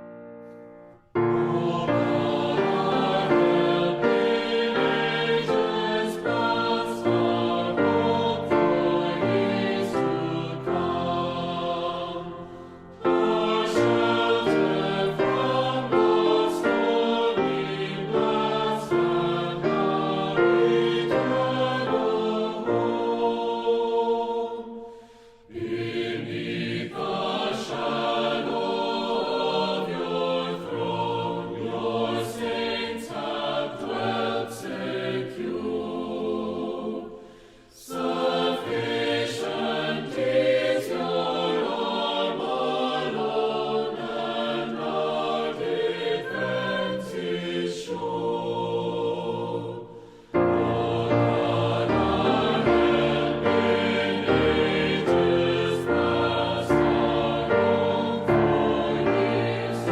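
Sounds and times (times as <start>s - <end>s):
choir singing a sacred song: 0.0s - 59.9s.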